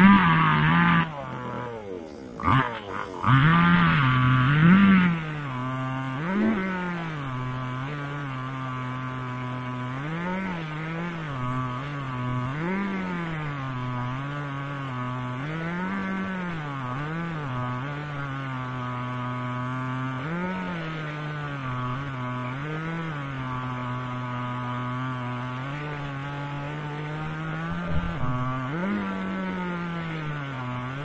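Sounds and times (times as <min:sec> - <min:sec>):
chainsaw cutting through log: 0:00.0 - 0:31.0.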